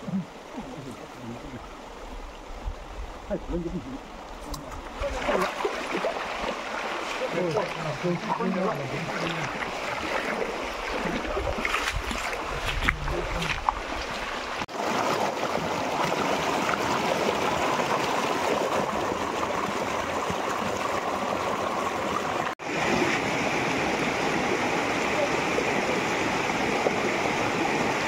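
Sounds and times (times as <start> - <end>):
stream water rushing over rocks: 0.0 - 28.0.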